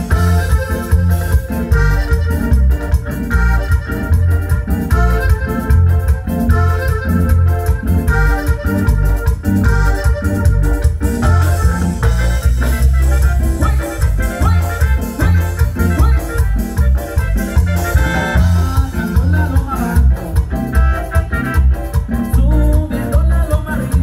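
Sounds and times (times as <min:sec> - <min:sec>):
cumbia music with keyboard: 0:00.0 - 0:24.0.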